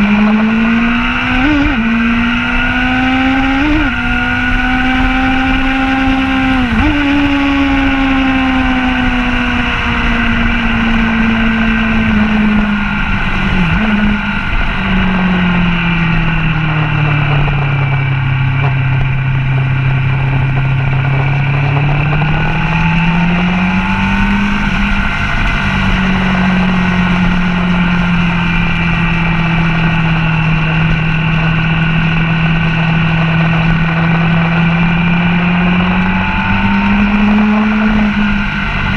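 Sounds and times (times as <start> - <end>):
motorcycle engine revving: 0.0 - 38.9
wind rush: 0.0 - 38.9.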